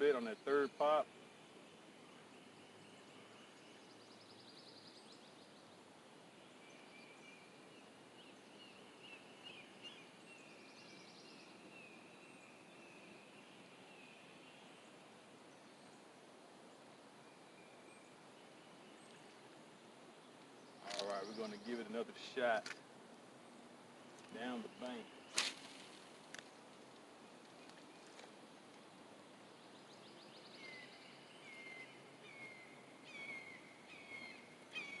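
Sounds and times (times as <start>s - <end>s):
faint distant bird calls: 0.0s - 35.0s.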